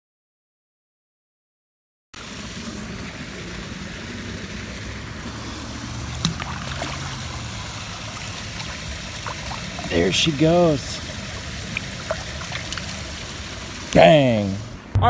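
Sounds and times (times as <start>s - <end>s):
water washing: 2.2s - 14.9s
low steady hum: 2.2s - 15.0s
wind: 2.2s - 15.0s.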